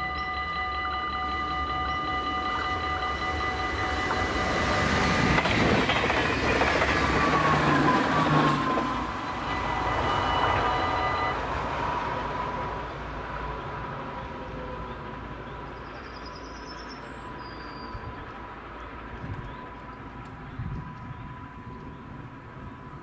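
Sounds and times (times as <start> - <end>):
electric train passing: 0.0 - 23.0
level crossing warning bells: 0.0 - 23.0.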